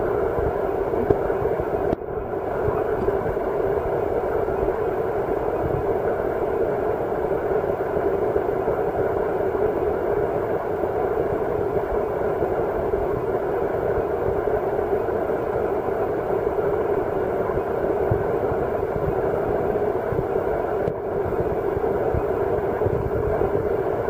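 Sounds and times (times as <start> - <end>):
muffled underwater rumble and hiss: 0.0 - 24.0.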